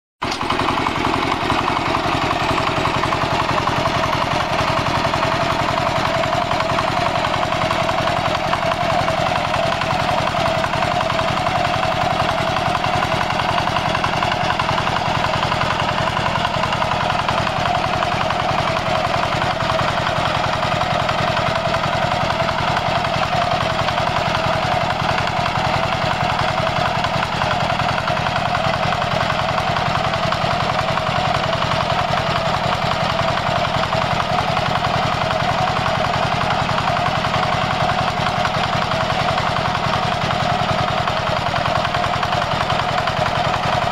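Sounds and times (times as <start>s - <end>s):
diesel engine chugging: 0.2s - 43.9s.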